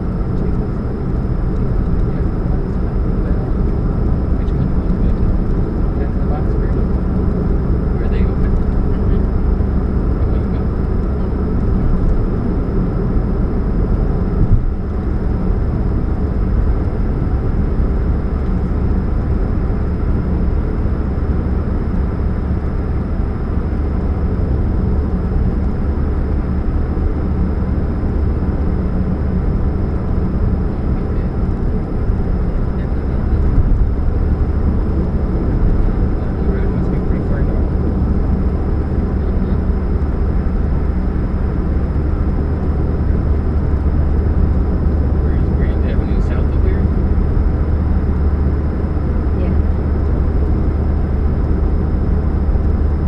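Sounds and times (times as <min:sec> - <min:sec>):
car engine humming: 0:00.0 - 0:53.0.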